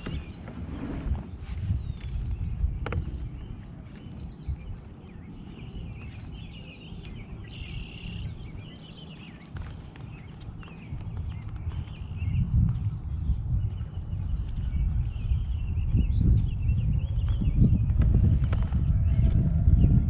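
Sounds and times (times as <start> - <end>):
birds chirping and calling: 0.0 - 0.7, 1.4 - 20.0
low rumble: 0.0 - 20.0.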